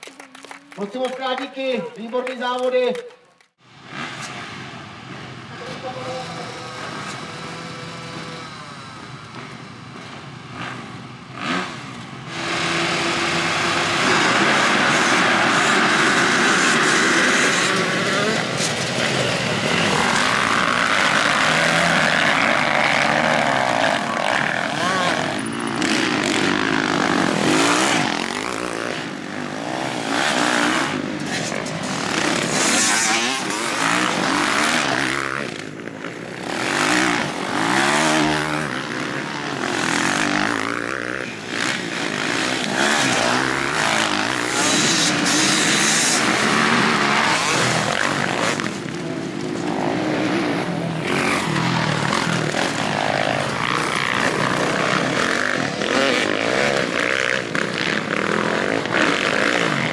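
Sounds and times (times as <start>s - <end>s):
motocross bike engines revving: 3.6s - 59.9s.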